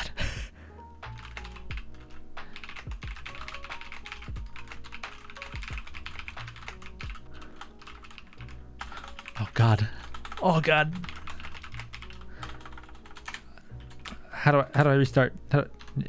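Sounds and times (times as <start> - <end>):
soft lo-fi music: 0.0 - 16.0
mechanical keyboard typing: 1.2 - 14.2.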